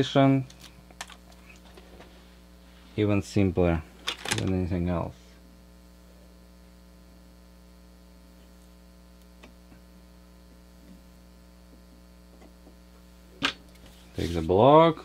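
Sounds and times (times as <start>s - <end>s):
low electrical mains hum: 0.0s - 15.0s.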